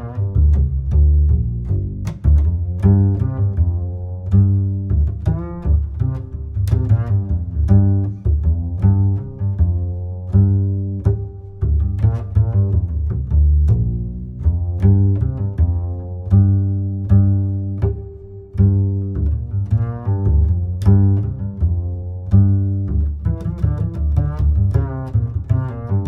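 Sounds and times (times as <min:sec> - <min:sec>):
music with bass and plucked notes: 0:00.0 - 0:26.0.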